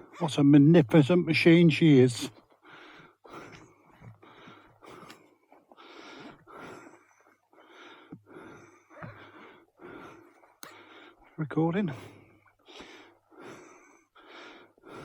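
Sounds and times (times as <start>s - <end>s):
person breathing heavily: 2.3s - 15.0s.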